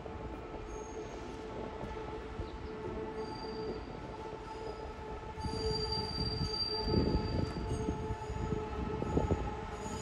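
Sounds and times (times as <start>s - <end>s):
electric train whine and rumble: 0.0s - 10.0s.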